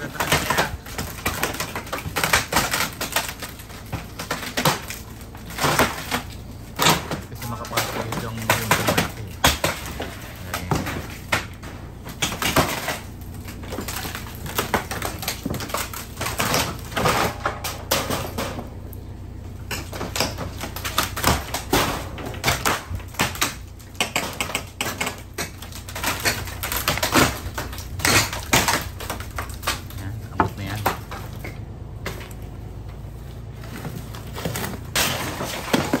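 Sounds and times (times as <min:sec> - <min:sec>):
excavator engine hum: 0:00.0 - 0:36.0
timber cracking and snapping: 0:00.0 - 0:36.0.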